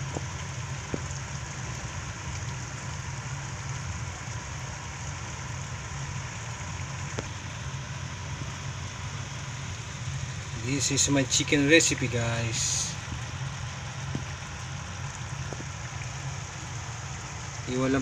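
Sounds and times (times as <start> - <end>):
low even hum: 0.0 - 18.0.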